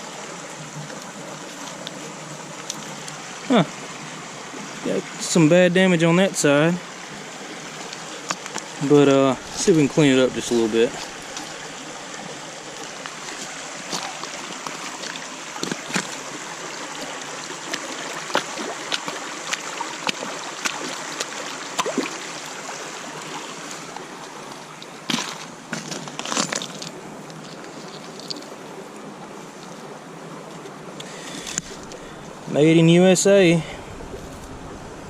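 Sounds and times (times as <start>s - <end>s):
water sloshing and splashing: 0.0s - 5.0s, 6.5s - 32.6s, 33.3s - 35.0s
flowing water: 0.0s - 35.0s.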